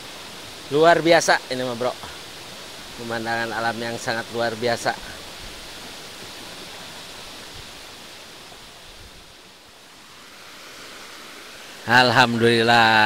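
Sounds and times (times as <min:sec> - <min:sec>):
stream running over stones: 0:00.0 - 0:13.0.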